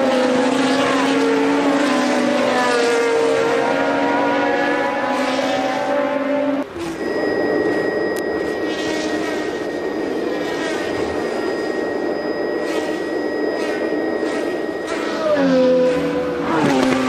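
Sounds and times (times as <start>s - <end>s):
race car engine high revs: 0.0s - 7.0s, 8.4s - 11.9s, 12.6s - 17.0s
rough noisy engine: 0.0s - 17.0s
thin high whine: 0.0s - 17.0s.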